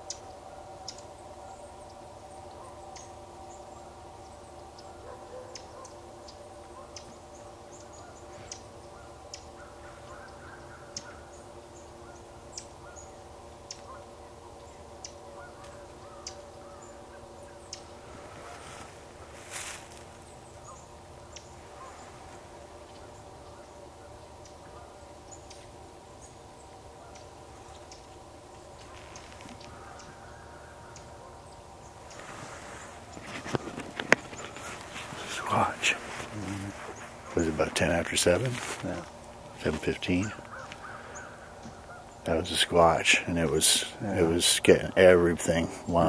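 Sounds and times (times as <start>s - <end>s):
geese calling: 0.0s - 46.0s.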